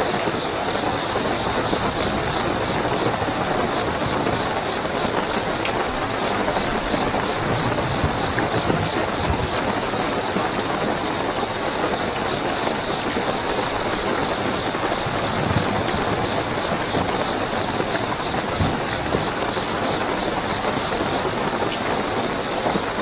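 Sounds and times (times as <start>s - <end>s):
crickets trilling: 0.0s - 23.0s
heavy rainfall: 0.0s - 23.0s.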